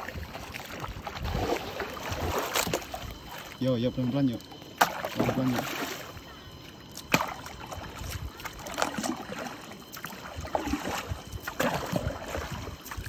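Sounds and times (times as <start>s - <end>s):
paddle strokes through water: 0.0s - 13.0s
water washing along boat: 0.0s - 13.0s.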